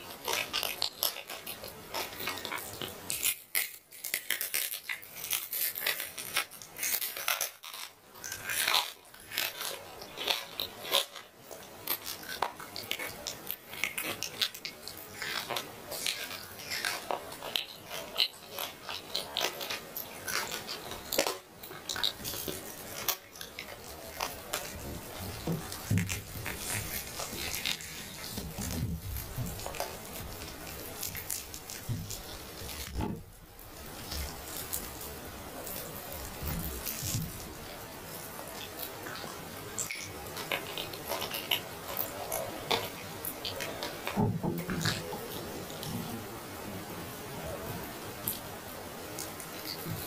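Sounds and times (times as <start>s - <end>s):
grilled chicken tearing: 0.0s - 46.5s.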